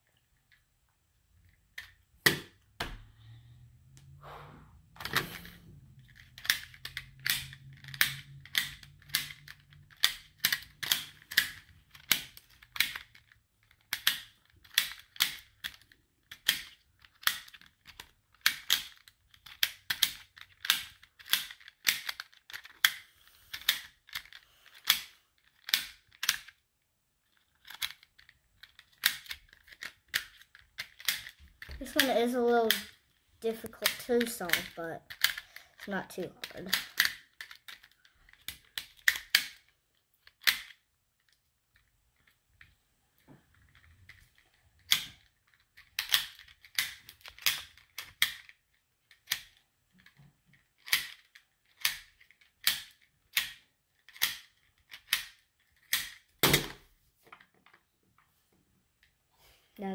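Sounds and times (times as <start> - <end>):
plastic puzzle clicking: 1.4 - 2.8, 5.0 - 42.7, 43.5 - 57.9.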